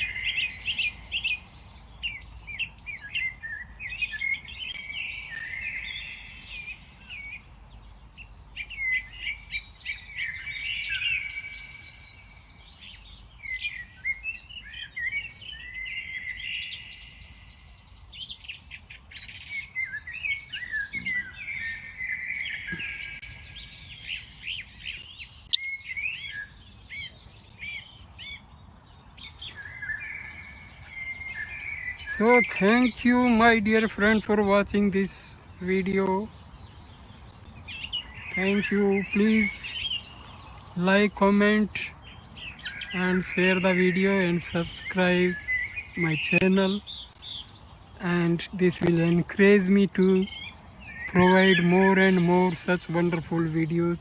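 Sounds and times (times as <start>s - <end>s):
chorus of birds singing: 0.0s - 54.0s.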